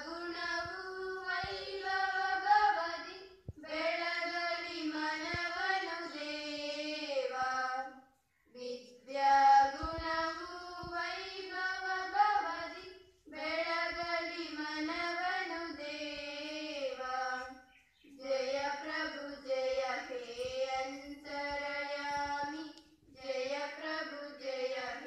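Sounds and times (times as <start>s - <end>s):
children singing in unison: 0.0s - 8.0s, 8.6s - 25.0s.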